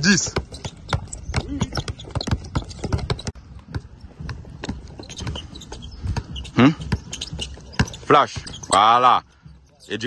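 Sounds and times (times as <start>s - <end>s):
basketballs bouncing on plastic court: 0.0s - 9.9s.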